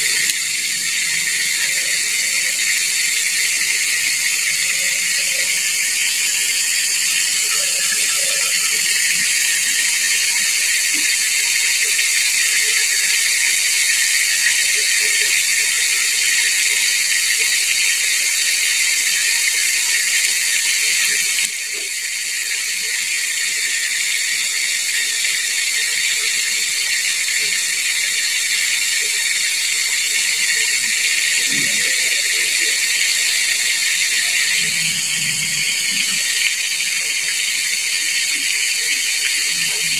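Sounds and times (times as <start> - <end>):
oil sizzling while deep-frying: 0.0 - 39.9.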